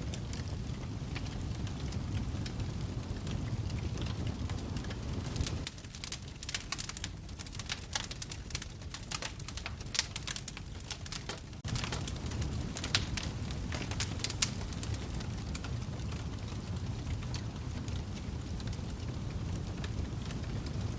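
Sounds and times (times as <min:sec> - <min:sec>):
low rumble of flames: 0:00.0 - 0:20.9
wood fire crackling: 0:00.0 - 0:20.9.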